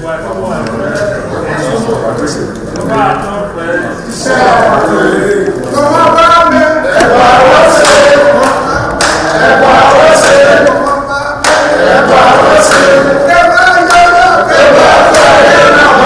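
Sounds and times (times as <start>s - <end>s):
group singing and chanting: 2.7s - 16.0s.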